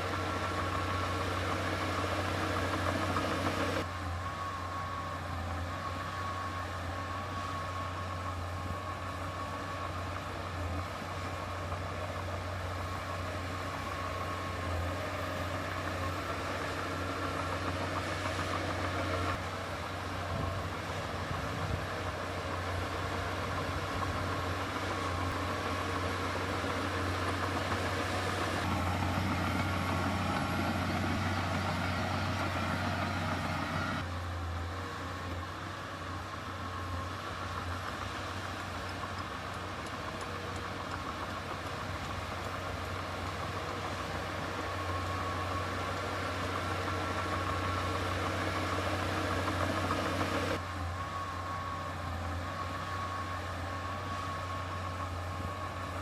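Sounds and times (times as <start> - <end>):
heavy machinery diesel engine drone: 0.0 - 56.0.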